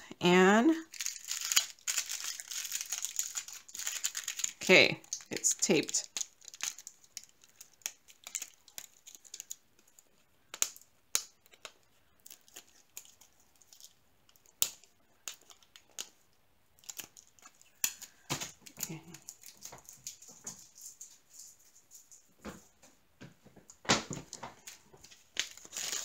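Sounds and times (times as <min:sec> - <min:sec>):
plastic and tape crinkling: 0:00.8 - 0:22.8, 0:23.5 - 0:26.0.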